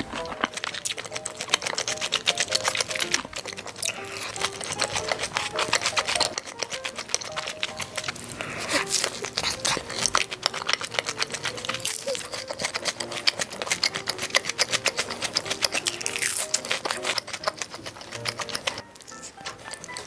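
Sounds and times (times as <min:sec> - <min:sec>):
light background music: 0:00.0 - 0:20.0
wet chewing sounds: 0:00.0 - 0:20.0.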